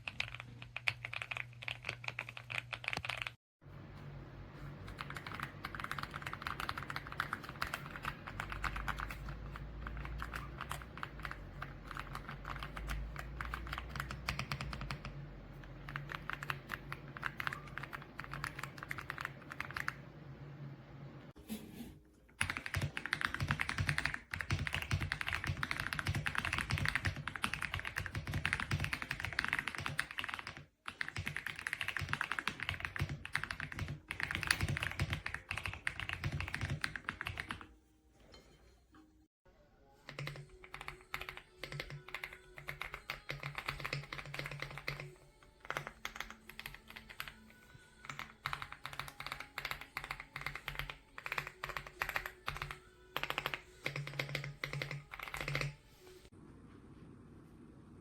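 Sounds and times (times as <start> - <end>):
mechanical keyboard typing: 0.0 - 3.4, 4.8 - 20.0, 22.4 - 37.6, 40.1 - 55.8.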